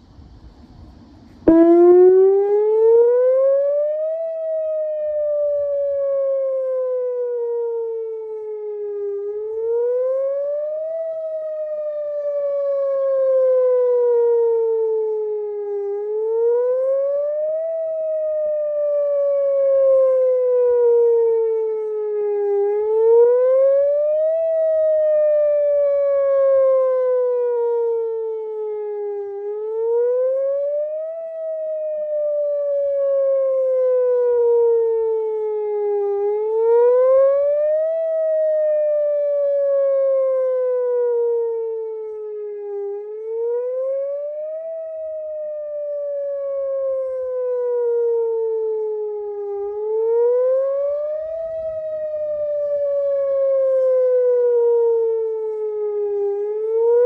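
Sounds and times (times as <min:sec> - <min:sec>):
electronic warning siren wailing: 0:01.4 - 0:57.0.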